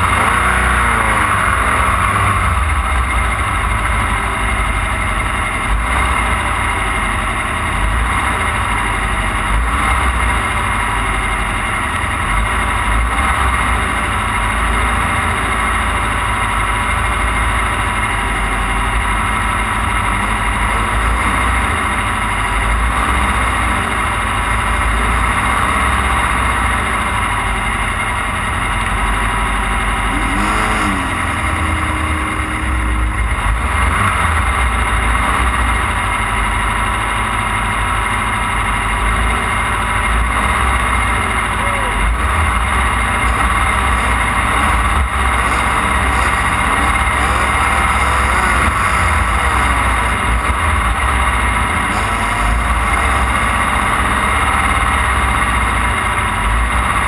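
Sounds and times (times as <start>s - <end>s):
race car engine running: 0.0s - 57.0s
road noise over rough ground: 0.0s - 57.0s.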